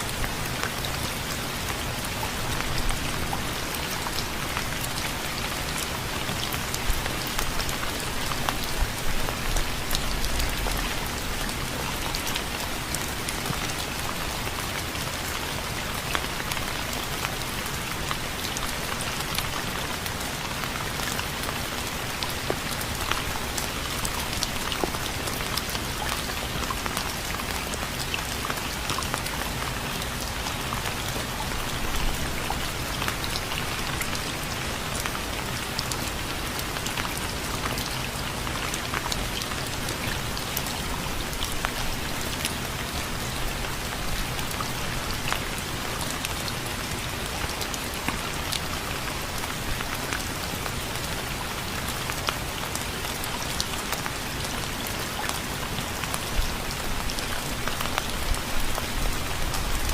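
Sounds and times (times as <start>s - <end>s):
rain falling: 0.0s - 59.9s
raindrops ticking on a surface: 0.0s - 59.9s.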